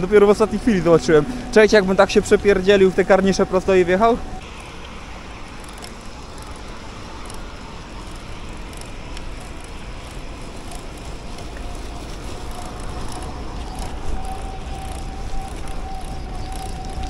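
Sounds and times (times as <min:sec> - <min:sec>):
faint motor whine: 0:00.0 - 0:17.0
wind and road rumble: 0:00.0 - 0:17.0.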